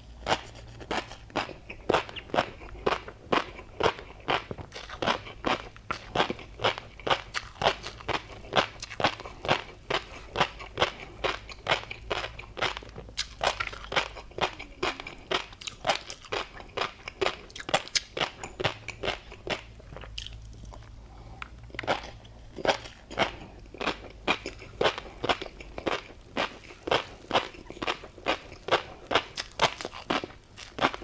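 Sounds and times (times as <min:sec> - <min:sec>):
crunchy chewing: 0:00.0 - 0:31.0.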